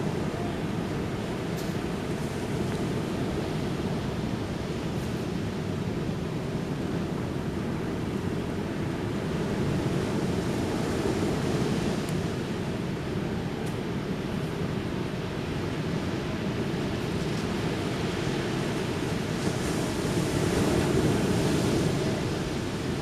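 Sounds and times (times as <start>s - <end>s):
ocean waves washing onto beach: 0.0s - 23.0s
wind on microphone: 0.0s - 23.0s.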